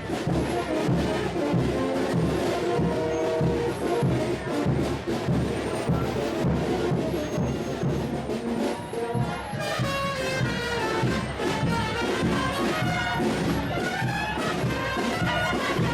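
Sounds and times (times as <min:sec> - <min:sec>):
brass music over drums: 0:00.0 - 0:15.9.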